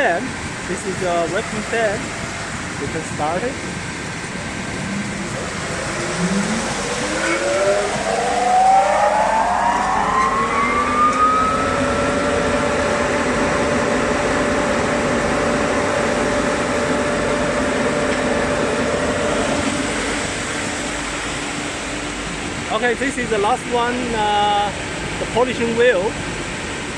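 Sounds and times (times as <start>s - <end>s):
extraction fan whine: 0.0s - 26.9s.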